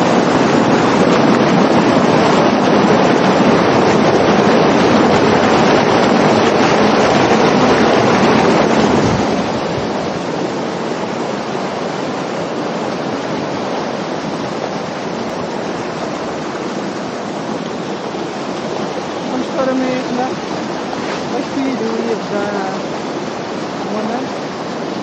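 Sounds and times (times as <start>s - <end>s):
floodwater rushing from pipe: 0.0s - 25.0s.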